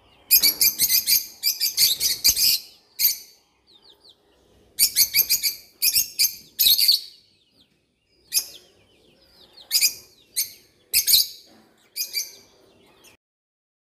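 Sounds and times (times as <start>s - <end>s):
birds harsh high chirps: 0.0s - 13.2s
birds twittering: 0.0s - 13.2s.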